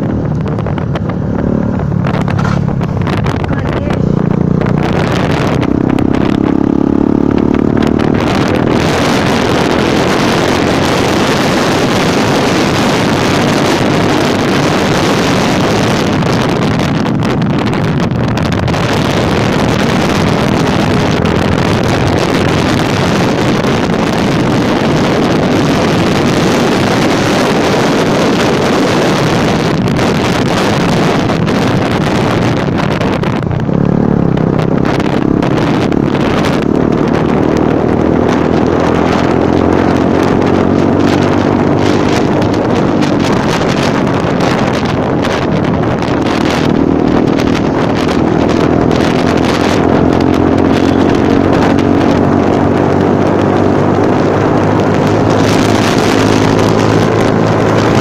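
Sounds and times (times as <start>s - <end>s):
motorcycle engine running: 0.0s - 58.0s
wind rushing on microphone: 0.0s - 58.0s.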